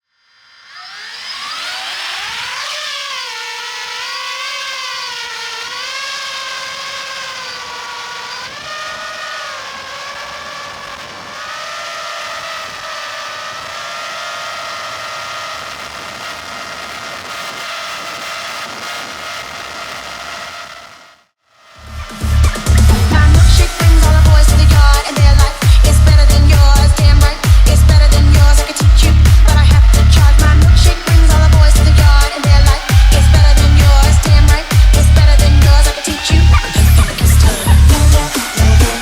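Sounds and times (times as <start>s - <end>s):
quadcopter motors whining: 0.0s - 39.0s.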